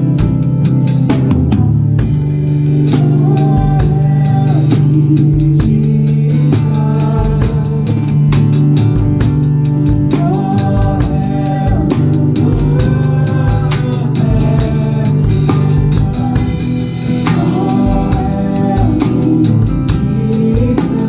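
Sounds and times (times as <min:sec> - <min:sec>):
drum kit beat: 0:00.0 - 0:21.0
live band playing: 0:00.0 - 0:21.0.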